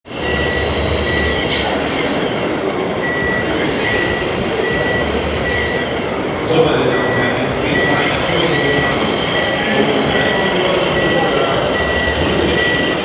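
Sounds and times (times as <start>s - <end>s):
machine and hall noise: 0.0s - 13.0s
electronic reversing beeper: 0.1s - 13.0s.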